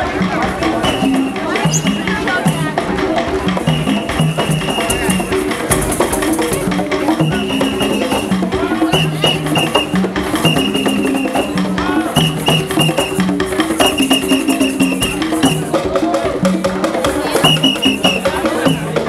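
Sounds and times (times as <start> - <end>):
wooden hand drums: 0.0 - 19.0.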